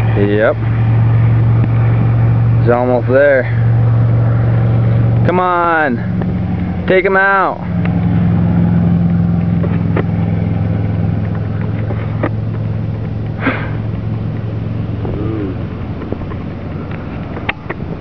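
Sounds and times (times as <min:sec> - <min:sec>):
idling engine hum: 0:00.0 - 0:18.0.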